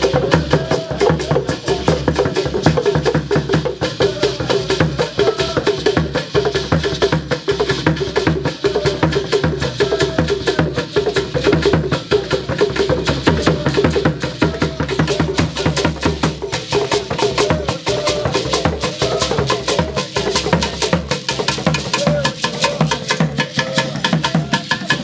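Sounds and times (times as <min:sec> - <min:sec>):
gourd rattle shaken: 0:00.0 - 0:25.0
hand drums playing fast rhythm: 0:00.0 - 0:25.0.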